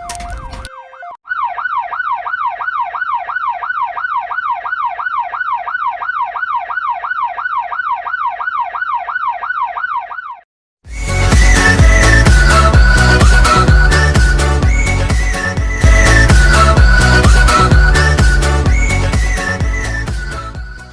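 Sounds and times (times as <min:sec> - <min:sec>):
ambulance siren yelping: 0:00.2 - 0:10.5, 0:11.4 - 0:20.9.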